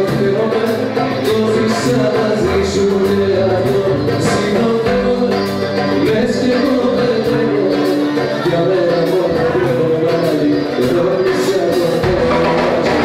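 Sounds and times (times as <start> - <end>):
acoustic guitar strumming: 0.0 - 13.0
man singing live: 0.0 - 13.0.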